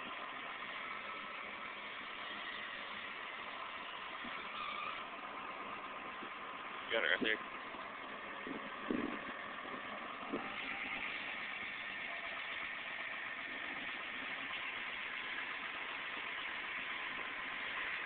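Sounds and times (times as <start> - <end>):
loader diesel engine running: 0.0 - 18.0.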